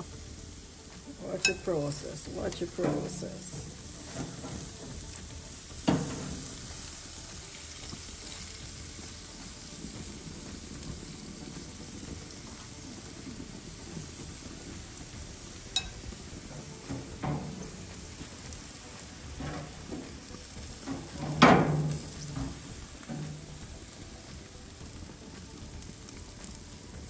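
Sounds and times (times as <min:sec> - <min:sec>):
chicken sizzling: 0:00.0 - 0:27.0.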